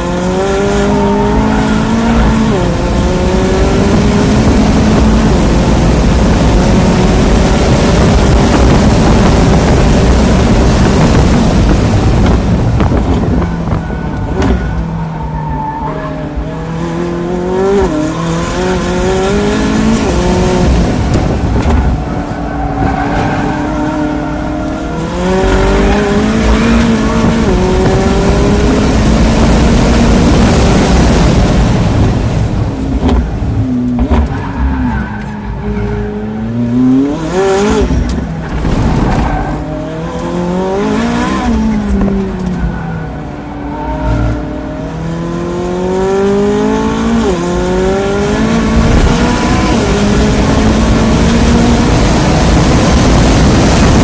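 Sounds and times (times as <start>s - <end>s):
sports car engine pulling hard: 0.0s - 54.0s
wind rush: 0.1s - 15.3s, 16.2s - 54.0s.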